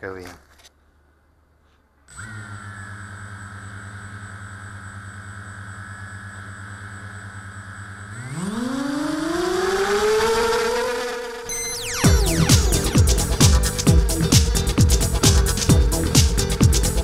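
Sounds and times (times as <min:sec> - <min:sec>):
drone motors humming and whining: 0:02.0 - 0:17.0.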